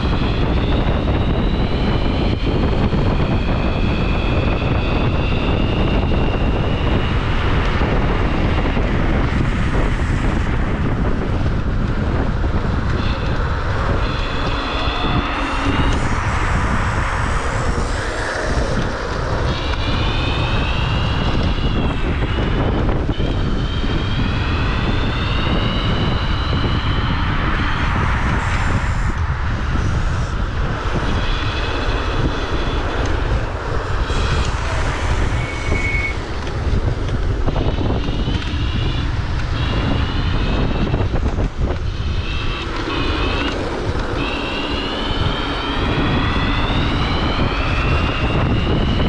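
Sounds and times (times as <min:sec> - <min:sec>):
electric scooter motor whining: 0:00.0 - 0:49.0
wind rush on microphone: 0:00.0 - 0:49.0.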